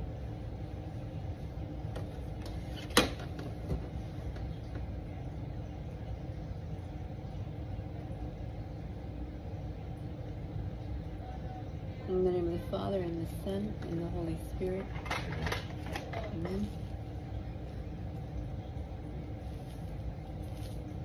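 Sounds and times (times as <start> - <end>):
faint hum: 0.0 - 21.0
room noise rumble: 0.0 - 21.0.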